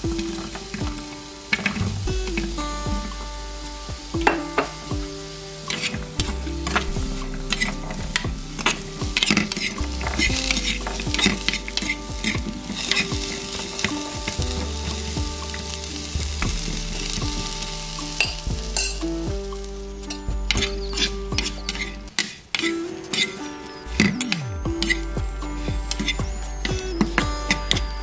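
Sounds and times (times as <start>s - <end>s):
food sizzling in pan: 0.0s - 28.0s.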